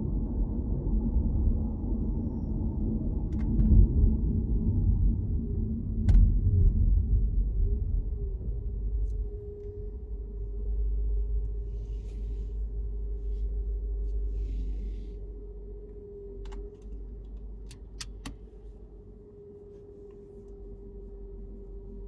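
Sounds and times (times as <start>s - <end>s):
car engine and road noise: 0.0s - 22.0s
faint constant hum: 0.0s - 22.0s.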